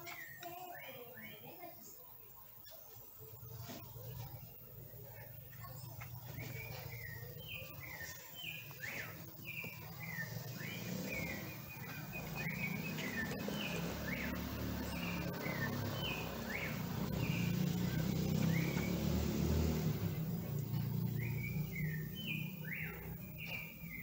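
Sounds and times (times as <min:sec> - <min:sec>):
mockingbird chirping: 0:00.0 - 0:24.0.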